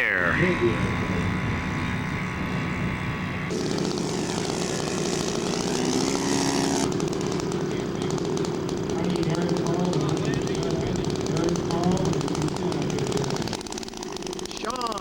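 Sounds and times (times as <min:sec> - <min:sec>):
model airplane engine: 0:00.0 - 0:15.0.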